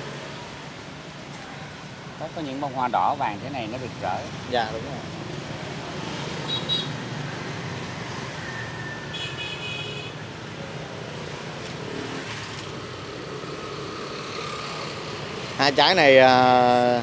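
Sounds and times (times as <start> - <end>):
street traffic hum: 0.0 - 17.0.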